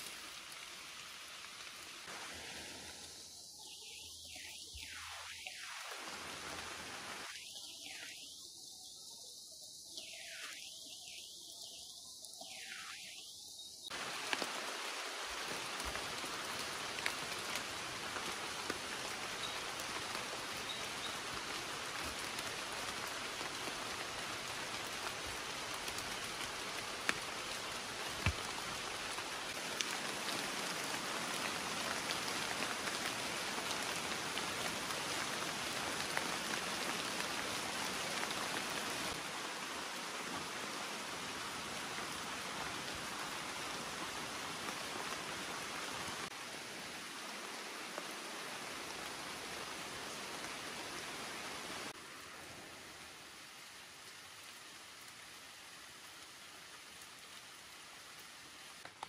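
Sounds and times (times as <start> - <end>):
rain falling on leaves: 0.0 - 8.4, 9.7 - 59.0.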